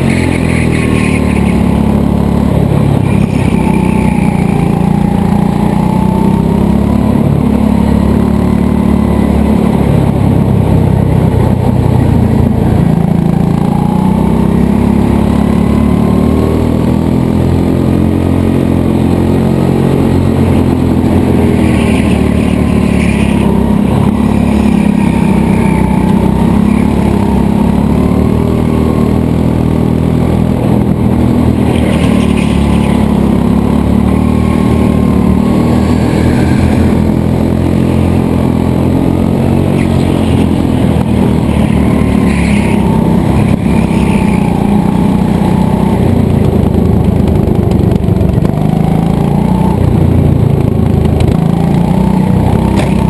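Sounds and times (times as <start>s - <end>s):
go-kart motor revving: 0.0s - 53.0s.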